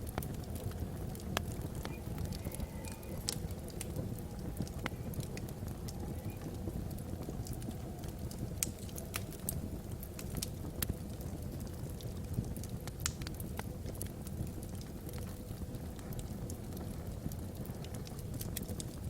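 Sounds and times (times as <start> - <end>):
low rumble of fire: 0.0 - 19.0
wood fire crackling and popping: 0.0 - 19.0.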